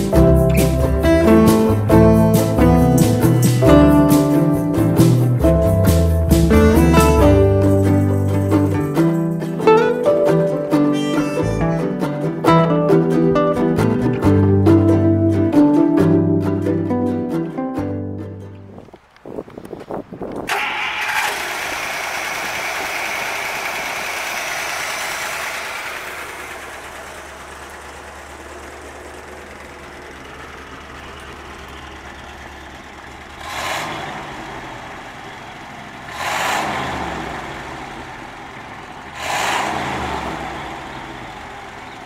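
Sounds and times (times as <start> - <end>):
car engine idling and revving: 0.0 - 17.0, 20.0 - 42.0
car engine starting: 0.0 - 19.1, 20.1 - 42.0.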